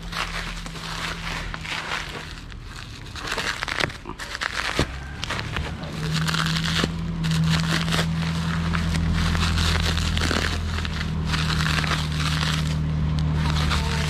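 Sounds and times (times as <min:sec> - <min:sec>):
bubble wrap crackling: 0:00.0 - 0:14.0
low hum: 0:00.0 - 0:14.0.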